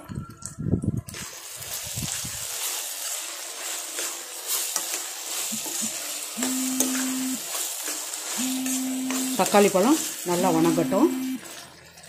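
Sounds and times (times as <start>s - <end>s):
tomatoes sizzling in hot oil: 1.1s - 12.0s.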